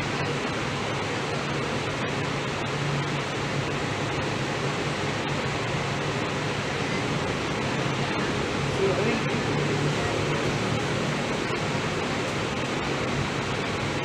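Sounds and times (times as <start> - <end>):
air-conditioning hiss: 0.0 - 14.0.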